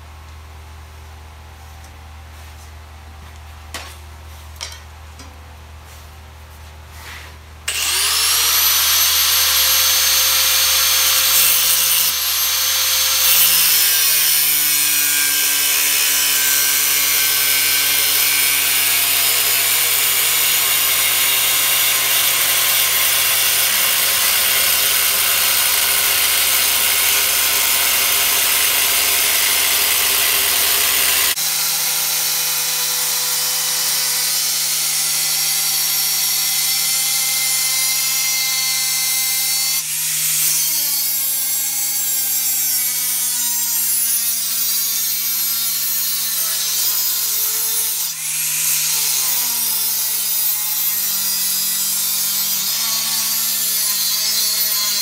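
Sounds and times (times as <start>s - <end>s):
angle grinder cutting steel: 7.7s - 55.0s.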